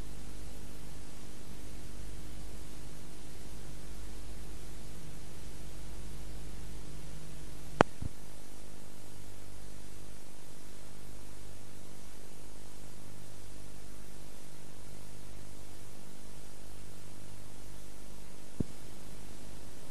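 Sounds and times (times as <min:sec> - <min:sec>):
low electrical hum: 0:00.0 - 0:19.9
static hiss: 0:00.0 - 0:19.9.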